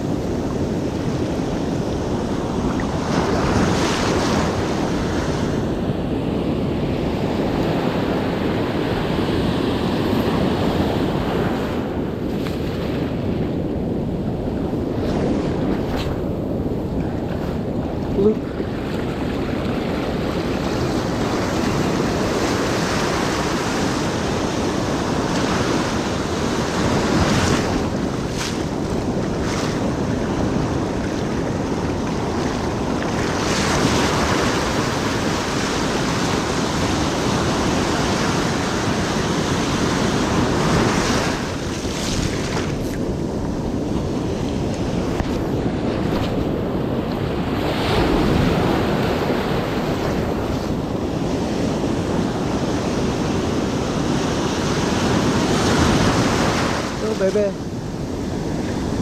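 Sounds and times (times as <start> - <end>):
surf breaking on a beach: 0.0 - 59.0
wind buffeting microphone: 0.0 - 59.0.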